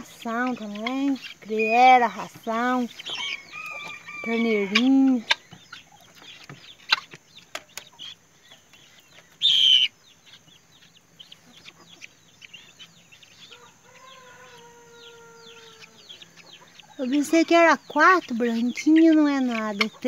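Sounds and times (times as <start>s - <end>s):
chicks peeping: 0.0s - 20.0s
long steady bird call: 0.0s - 20.0s.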